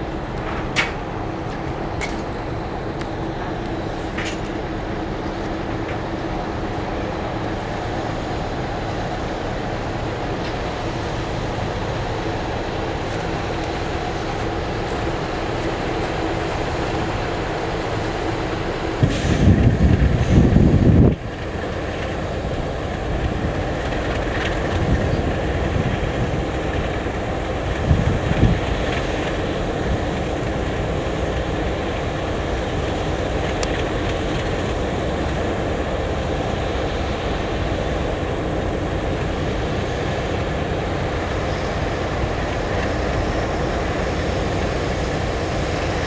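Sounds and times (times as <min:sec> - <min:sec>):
diesel train rumbling: 0:00.0 - 0:46.0.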